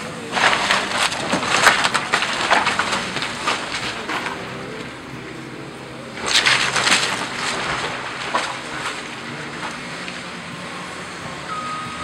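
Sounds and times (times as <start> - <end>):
excavator engine running: 0.0 - 12.0
wood cracking and splintering: 0.0 - 12.0.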